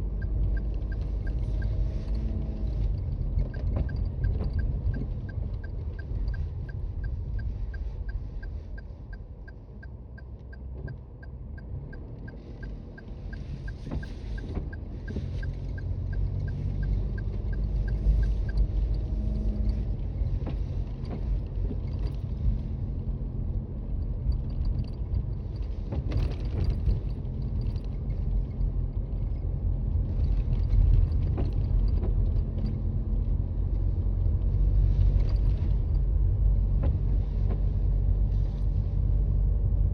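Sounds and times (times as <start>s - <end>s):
tyre and engine rumble: 0.0s - 39.9s.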